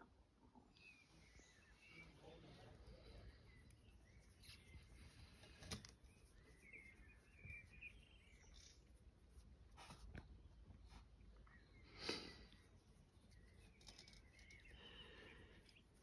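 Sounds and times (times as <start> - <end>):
faint bird chirps: 0.5 - 16.0.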